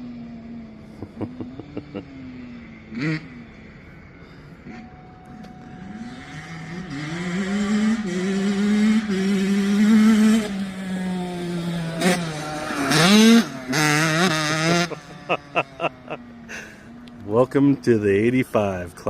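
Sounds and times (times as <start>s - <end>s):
dirt bike engine revving: 0.0s - 18.7s.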